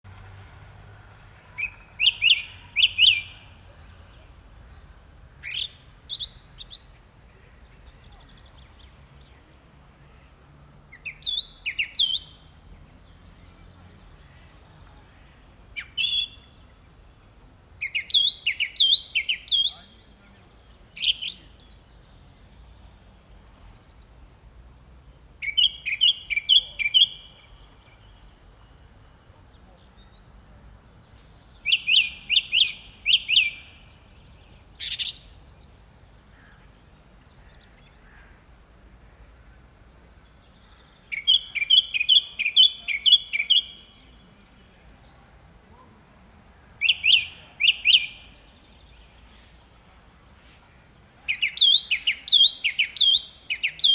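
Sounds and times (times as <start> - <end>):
song thrush singing: 1.4 - 46.1, 46.8 - 53.9.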